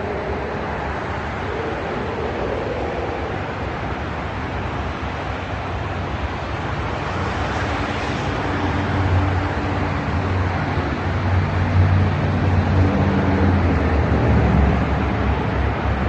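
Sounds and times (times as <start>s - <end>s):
steady rushing rumble: 0.0s - 16.0s.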